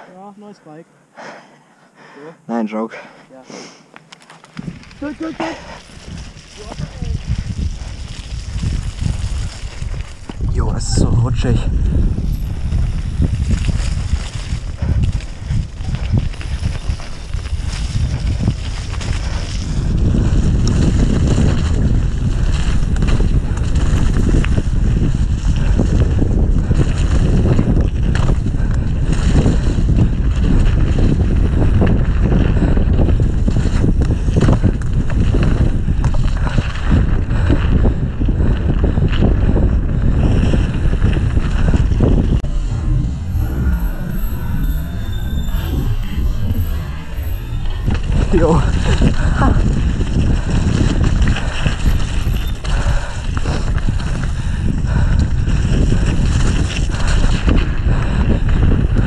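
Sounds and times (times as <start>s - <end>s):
bike rattling over rough ground: 4.0s - 59.0s
wind buffeting microphone: 4.5s - 59.0s.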